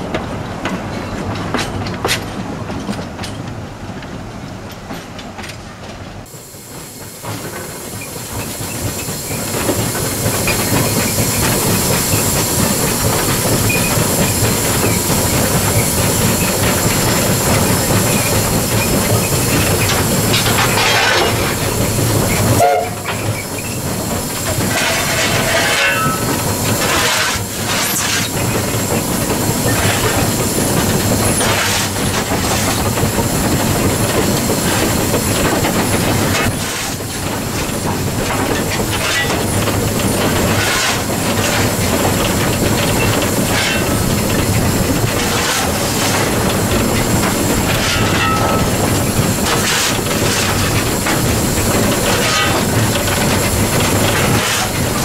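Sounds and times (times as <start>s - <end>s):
wheels clicking over rail joints: 0.0s - 6.3s, 7.2s - 55.0s
steam locomotive running: 0.0s - 55.0s.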